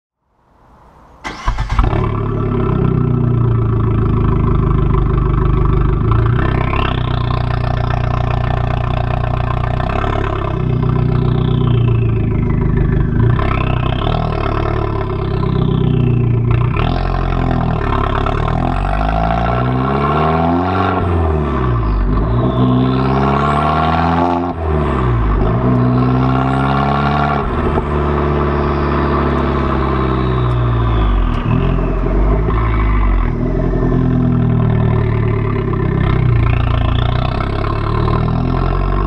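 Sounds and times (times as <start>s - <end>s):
car engine revving: 1.2s - 39.0s.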